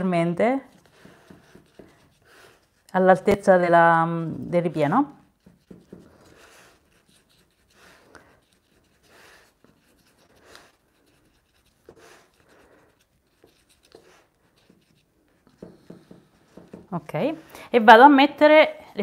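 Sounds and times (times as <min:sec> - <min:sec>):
fingertips rubbing pastry: 0:00.0 - 0:17.4.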